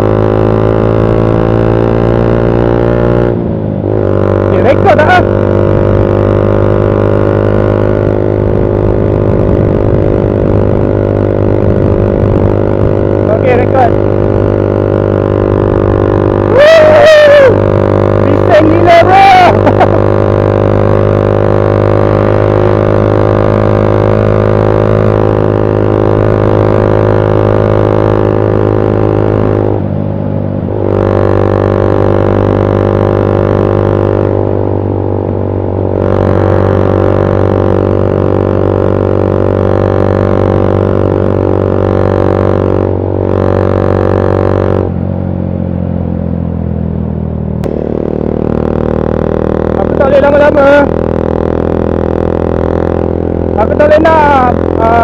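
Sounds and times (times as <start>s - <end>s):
motorcycle engine running steadily: 0.0s - 55.0s.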